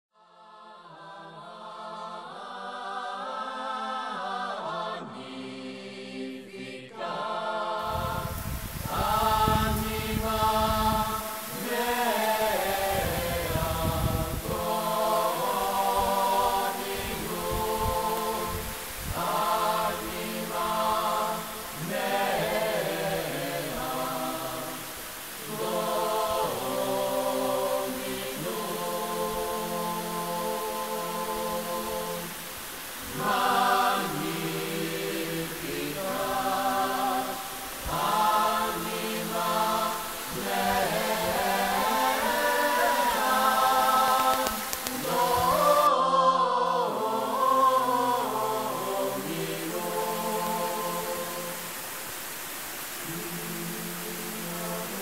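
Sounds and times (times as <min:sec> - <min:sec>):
choral chanting: 0:00.1 - 0:55.0
hiss: 0:07.8 - 0:46.0, 0:46.8 - 0:55.0.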